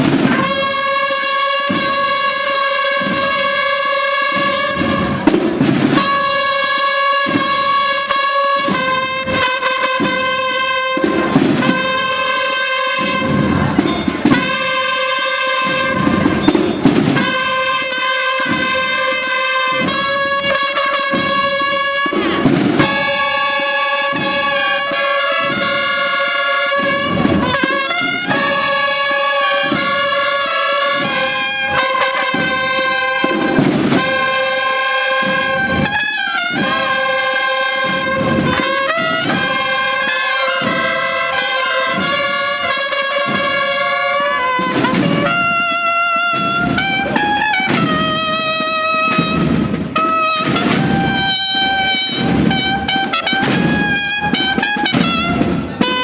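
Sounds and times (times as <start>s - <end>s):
brass band playing a march: 0.0s - 56.0s
drum beats: 0.0s - 56.0s.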